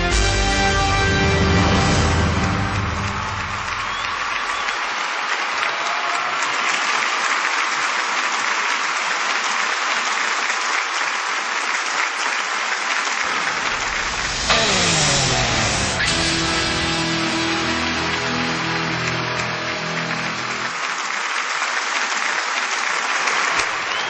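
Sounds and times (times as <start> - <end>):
audience applause: 0.0 - 24.0.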